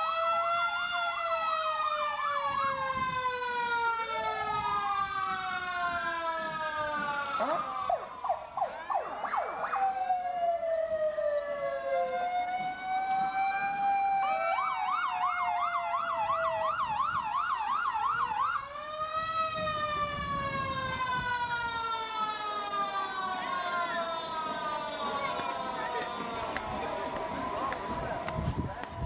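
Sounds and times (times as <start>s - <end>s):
siren fast yelp: 0.0s - 28.5s
emergency sirens wailing: 0.0s - 29.0s.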